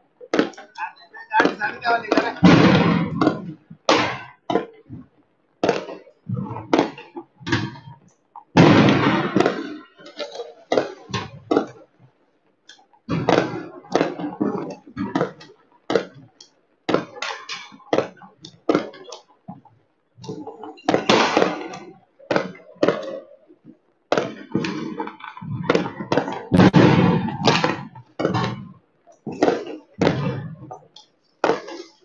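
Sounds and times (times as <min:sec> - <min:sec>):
fireworks and firecrackers banging: 0:00.0 - 0:32.0.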